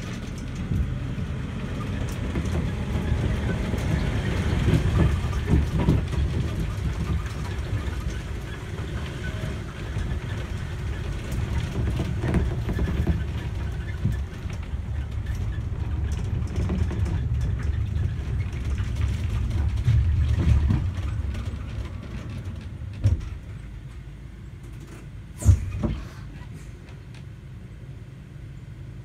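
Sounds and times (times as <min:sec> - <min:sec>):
road train engine rumble: 0:00.0 - 0:29.0.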